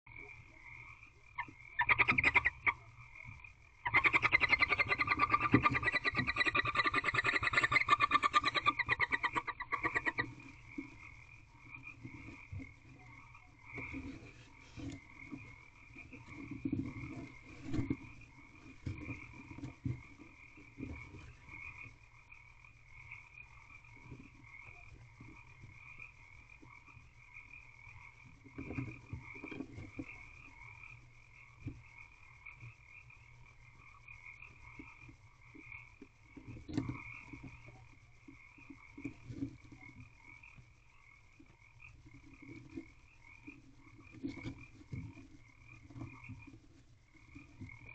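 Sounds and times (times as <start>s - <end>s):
frogs croaking: 0.1s - 47.9s.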